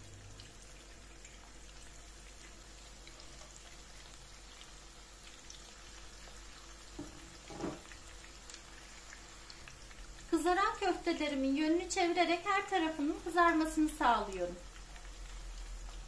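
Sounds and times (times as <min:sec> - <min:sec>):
oil sizzling with crackles: 0:00.0 - 0:16.0.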